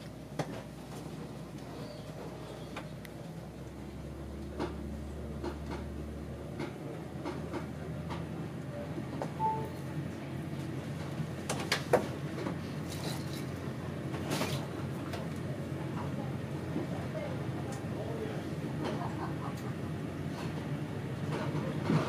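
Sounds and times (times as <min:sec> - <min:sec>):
train coach running hum: 0:00.0 - 0:22.0.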